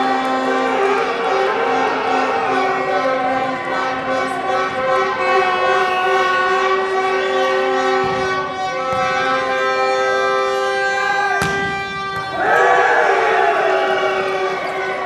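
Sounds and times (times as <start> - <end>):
droning tones: 0.0 - 15.0.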